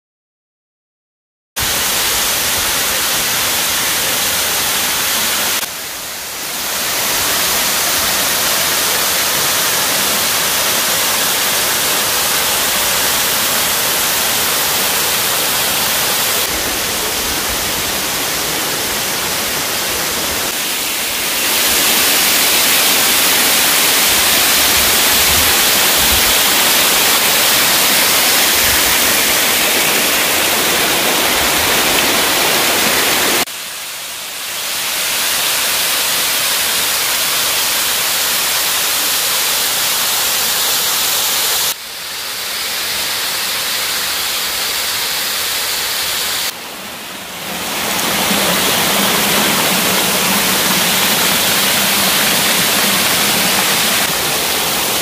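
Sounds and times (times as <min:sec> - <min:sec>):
waterfall rushing: 0:01.6 - 0:55.0.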